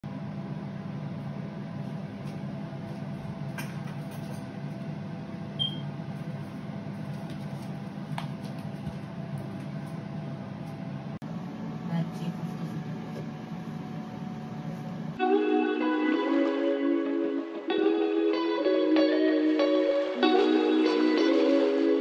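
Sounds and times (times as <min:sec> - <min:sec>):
appliance humming: 0:00.0 - 0:22.0.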